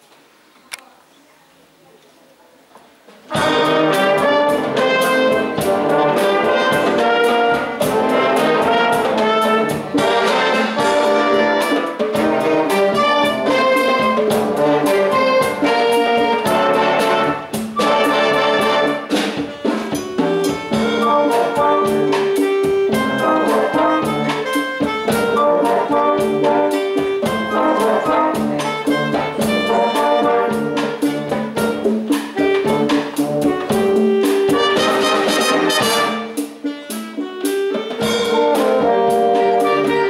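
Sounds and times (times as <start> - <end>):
wind band playing: 3.3 - 40.0.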